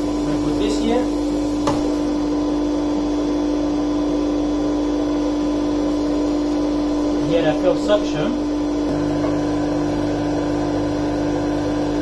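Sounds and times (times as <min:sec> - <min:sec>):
dust collector humming: 0:00.0 - 0:12.0.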